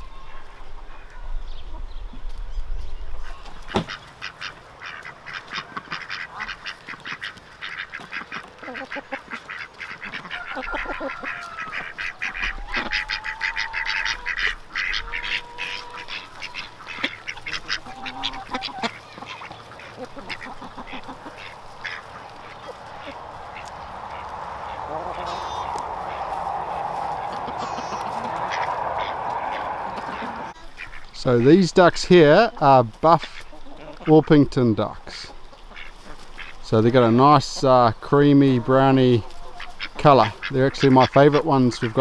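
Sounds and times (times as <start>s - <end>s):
ducks quacking: 2.9s - 42.0s.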